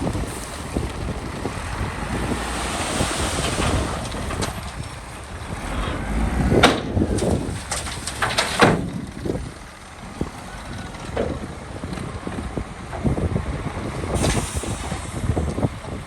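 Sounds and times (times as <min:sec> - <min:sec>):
diesel machinery rumbling: 0:00.0 - 0:16.0.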